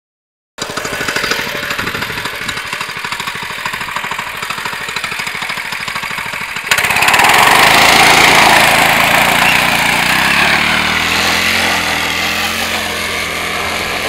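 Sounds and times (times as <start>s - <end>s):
small motor pulsing: 0.6s - 14.0s.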